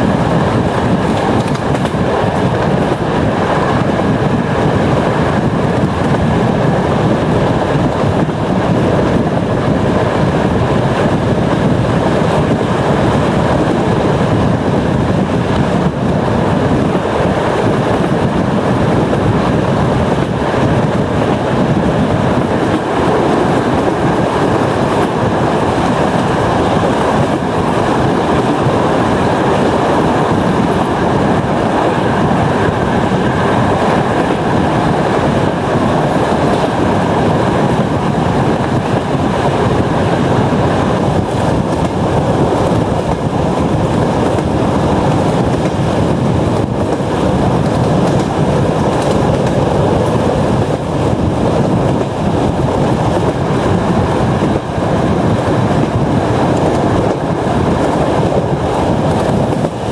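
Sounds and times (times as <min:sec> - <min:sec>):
rushing air: 0:00.0 - 0:59.9
train wheels rumbling on rails: 0:00.0 - 0:59.9.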